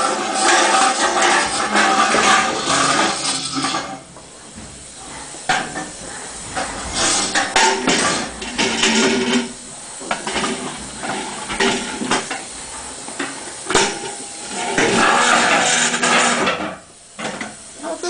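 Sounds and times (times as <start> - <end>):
rustling and clattering: 0.0 - 17.7.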